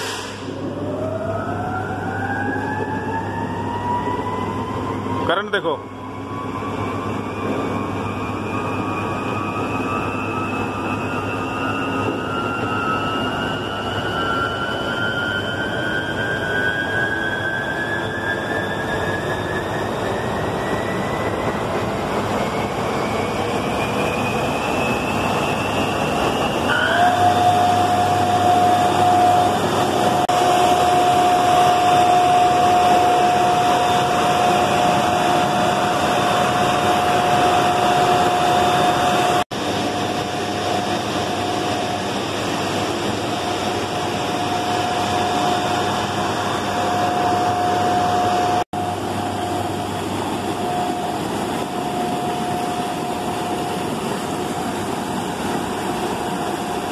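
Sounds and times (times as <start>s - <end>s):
broad running noise: 0.0s - 56.9s.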